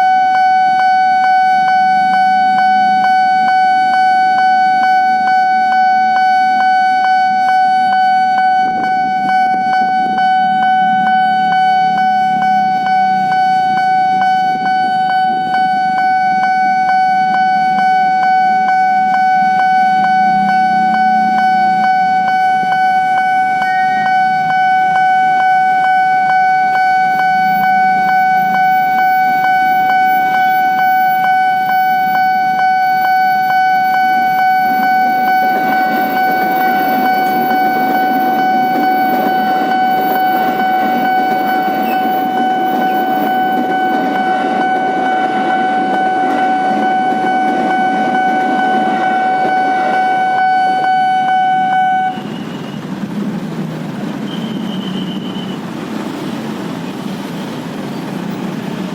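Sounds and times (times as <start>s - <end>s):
level crossing alarm pulsing tone: 0.0s - 58.9s.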